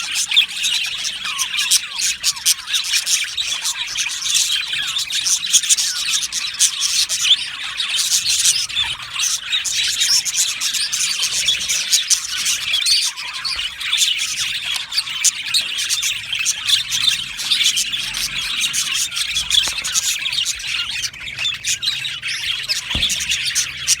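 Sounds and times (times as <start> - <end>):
budgerigars chattering: 0.0 - 24.0.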